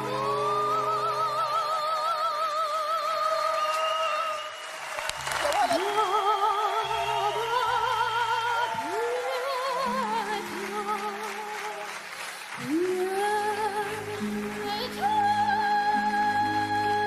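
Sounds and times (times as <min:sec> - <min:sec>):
girl singing opera: 0:00.0 - 0:04.6, 0:05.6 - 0:11.9, 0:12.6 - 0:17.0.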